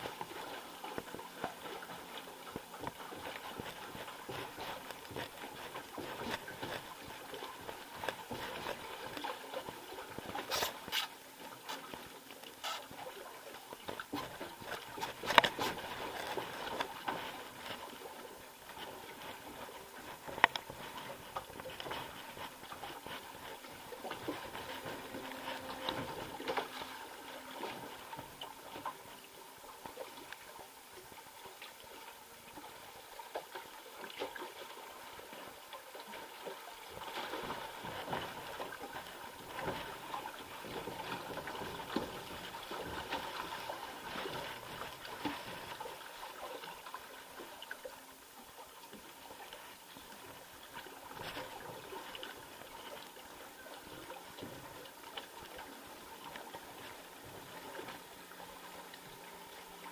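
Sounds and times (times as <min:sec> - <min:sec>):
water trickling and lapping: 0:00.0 - 0:59.9.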